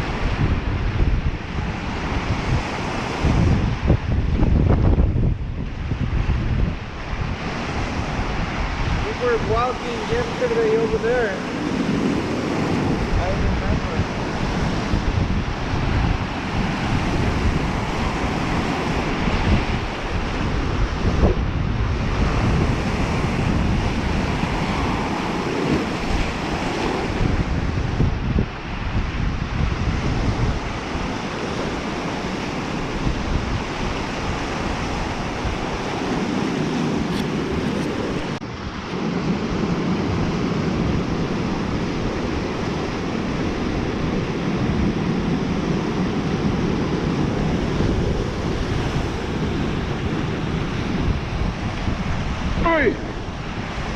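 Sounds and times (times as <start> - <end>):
waves washing onto shore: 0.0 - 53.9
wind buffeting microphone: 0.0 - 53.9.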